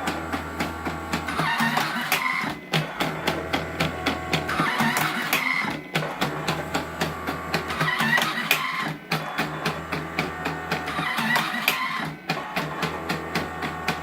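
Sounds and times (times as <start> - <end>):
machine motor hum: 0.0 - 14.0
rapid mechanical clicking: 0.0 - 14.0.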